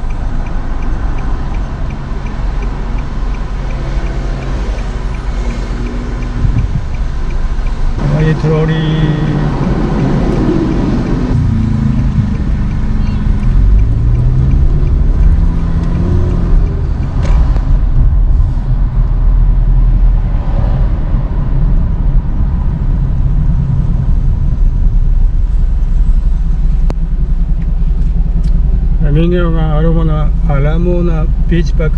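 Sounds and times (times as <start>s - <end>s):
trolley bus engine: 0.0s - 29.0s.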